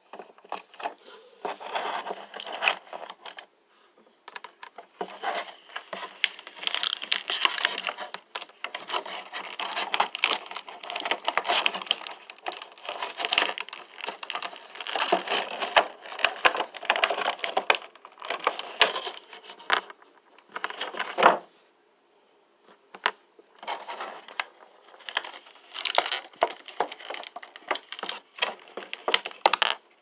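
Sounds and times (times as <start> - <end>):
plastic packaging crinkling: 0.1 - 3.5, 4.5 - 21.3, 23.6 - 30.0.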